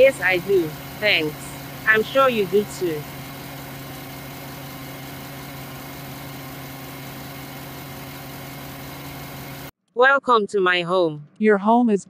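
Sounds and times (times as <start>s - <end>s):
car engine running: 0.0s - 9.7s.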